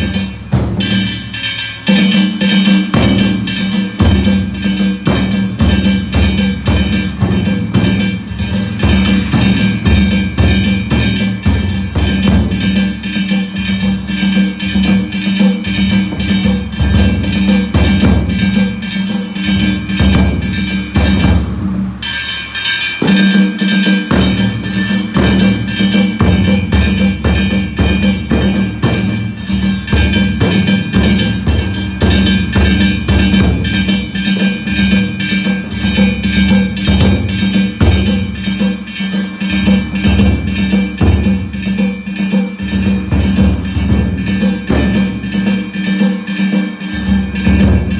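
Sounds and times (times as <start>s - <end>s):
metal gongs ringing: 0.0s - 47.9s
taiko drums fast rhythm: 0.0s - 47.9s.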